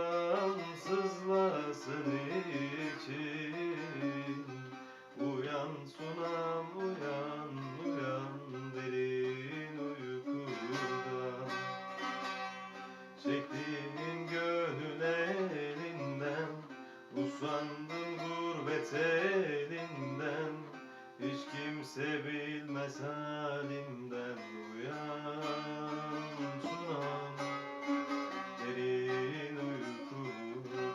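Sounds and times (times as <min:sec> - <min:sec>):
plucked string instrument melody: 0:00.0 - 0:30.9.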